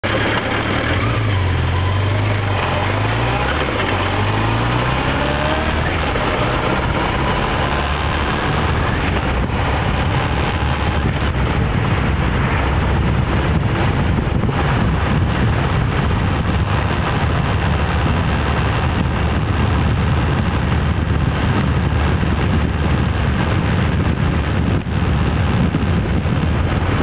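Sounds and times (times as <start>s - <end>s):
motorcycle engine running: 0.0s - 27.0s
steady rushing noise: 0.0s - 27.0s.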